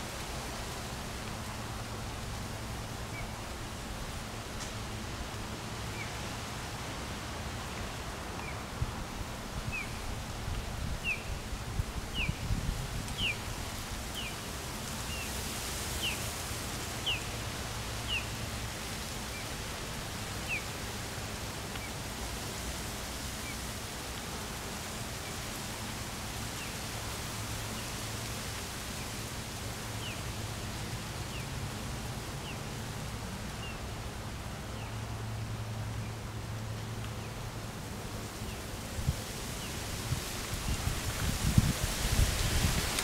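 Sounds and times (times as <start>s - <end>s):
background hiss: 0.0s - 43.0s.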